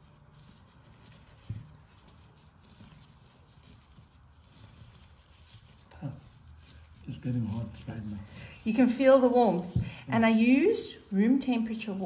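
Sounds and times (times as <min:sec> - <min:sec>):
faint rustling of bandage: 0:00.0 - 0:12.0.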